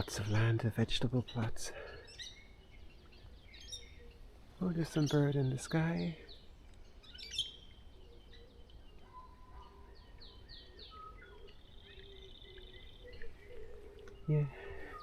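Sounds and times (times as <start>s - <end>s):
bird trill: 0.0s - 15.0s
songbirds chirping: 0.0s - 15.0s.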